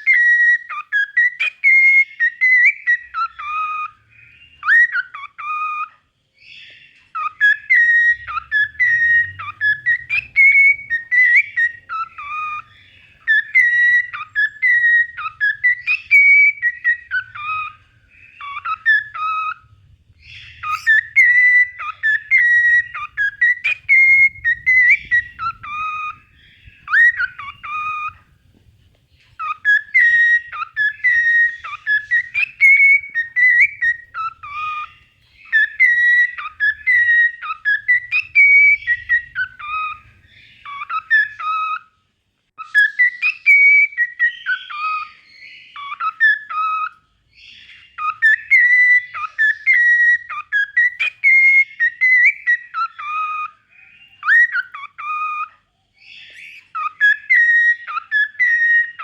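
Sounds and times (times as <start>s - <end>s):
cockatiel whistling: 0.0s - 41.9s, 42.6s - 59.0s.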